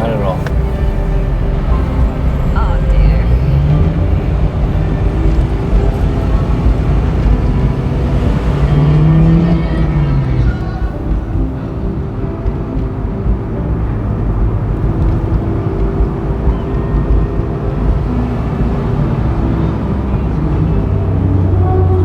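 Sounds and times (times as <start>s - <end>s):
car engine droning while driving: 0.0s - 22.0s.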